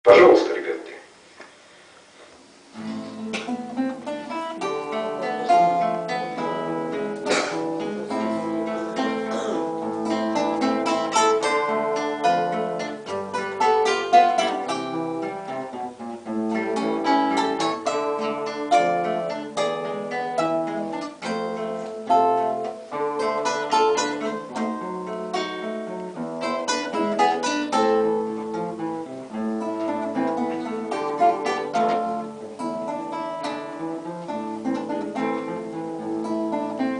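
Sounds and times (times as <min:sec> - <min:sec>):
acoustic guitar plucked notes: 0:02.7 - 0:36.9.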